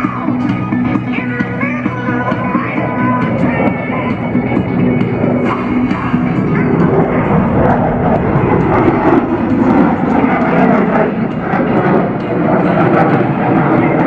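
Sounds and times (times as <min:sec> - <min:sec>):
jet engines flying past: 0:00.0 - 0:14.0.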